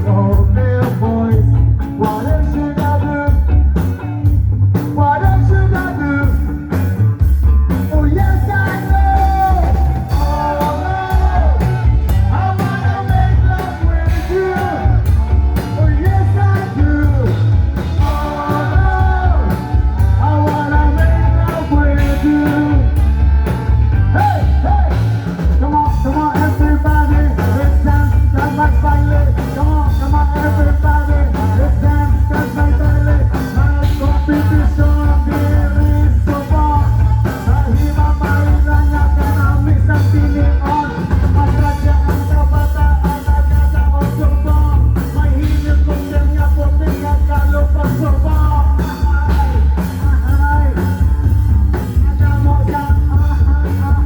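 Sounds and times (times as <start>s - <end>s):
rock music with singer: 0.0s - 54.0s.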